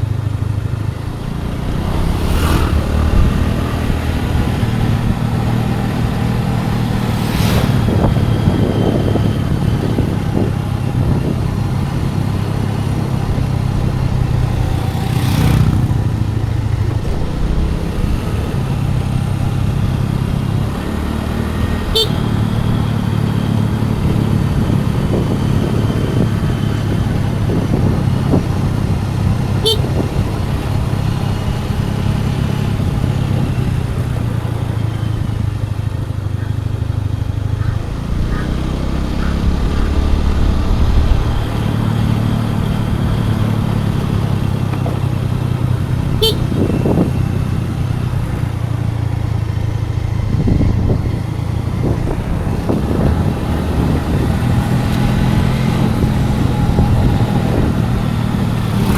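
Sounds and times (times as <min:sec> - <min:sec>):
road and wind noise: 0:00.0 - 0:58.9
scooter engine running: 0:00.0 - 0:58.9.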